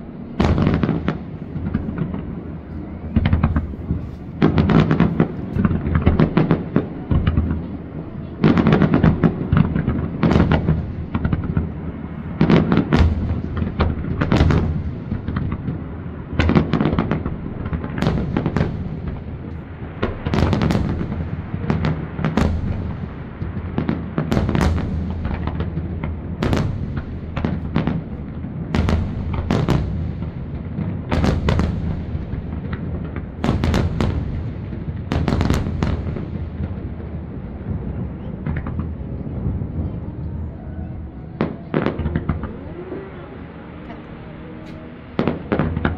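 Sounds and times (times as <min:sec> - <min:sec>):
low booming: 0:00.0 - 0:43.9
fireworks bursting: 0:00.0 - 0:45.9.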